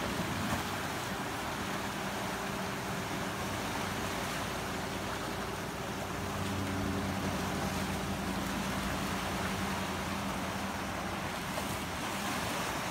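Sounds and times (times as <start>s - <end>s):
low mechanical hum: 0.0s - 12.8s
surf breaking over rocks: 0.0s - 12.9s.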